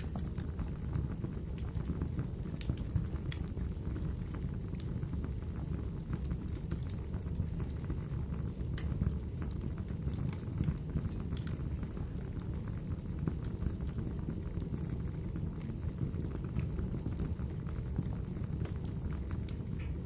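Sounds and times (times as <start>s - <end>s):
crackling wood fire: 0.0s - 20.0s.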